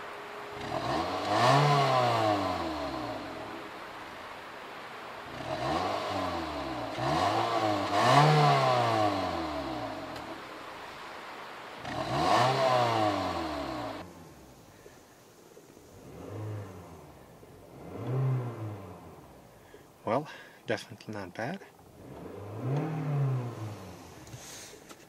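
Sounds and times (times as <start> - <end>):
car engine revving from idle: 0.0 - 15.0, 15.8 - 19.7, 21.8 - 24.7.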